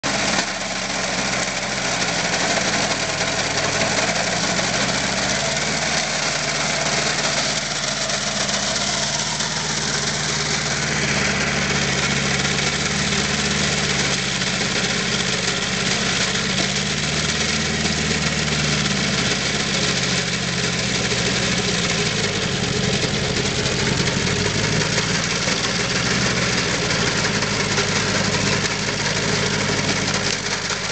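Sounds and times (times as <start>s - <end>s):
rotivator churning soil: 0.0s - 30.9s
tractor engine running: 0.0s - 30.9s.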